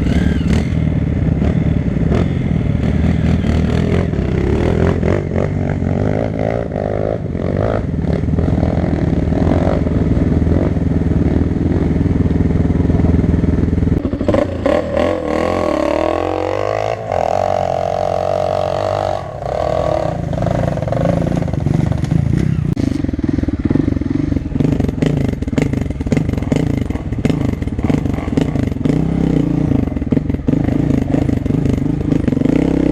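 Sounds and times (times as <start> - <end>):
dirt bike engine running: 0.0 - 32.9.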